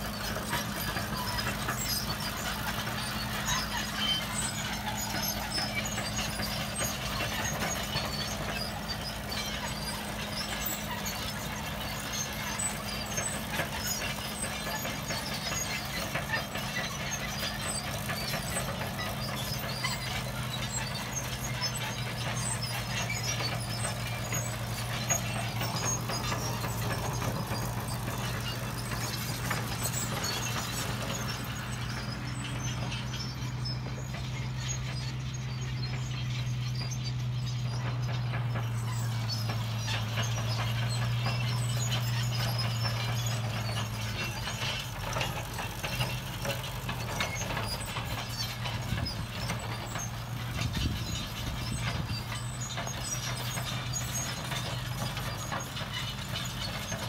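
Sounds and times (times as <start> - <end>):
excavator diesel engine droning: 0.0 - 57.0
light clicks and squeaks: 0.0 - 57.0.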